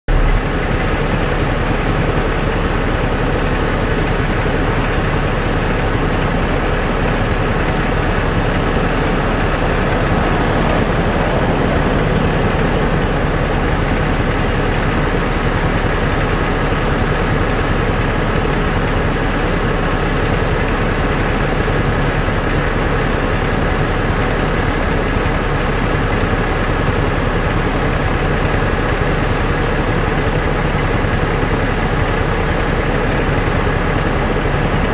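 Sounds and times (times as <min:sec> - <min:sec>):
engine drone: 0:00.0 - 0:34.9.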